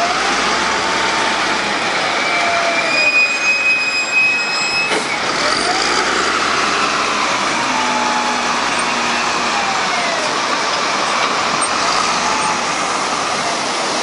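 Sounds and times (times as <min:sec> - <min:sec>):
diesel engine under load: 0:00.0 - 0:14.0.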